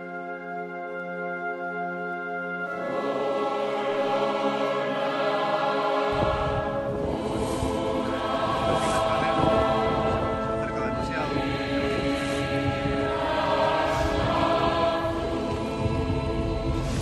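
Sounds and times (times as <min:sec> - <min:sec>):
choral singing: 0:02.6 - 0:17.0.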